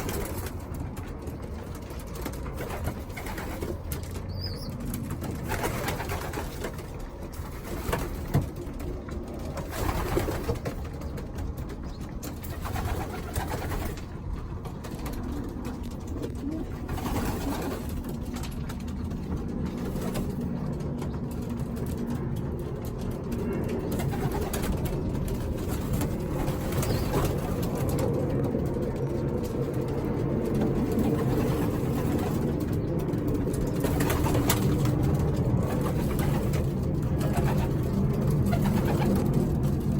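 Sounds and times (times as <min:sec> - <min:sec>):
pigeons cooing: 0:01.9 - 0:39.9.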